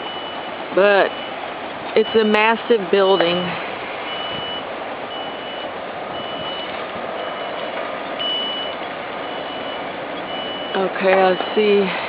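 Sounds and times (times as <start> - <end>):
backup alarm beeping: 0.0 - 12.0
work site noise: 0.0 - 12.0.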